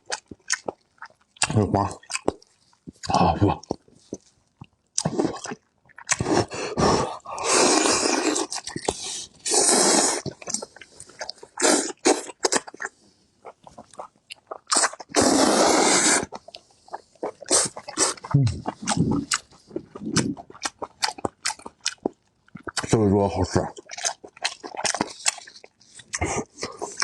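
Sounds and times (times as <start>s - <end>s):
wet chewing: 0.0s - 27.0s.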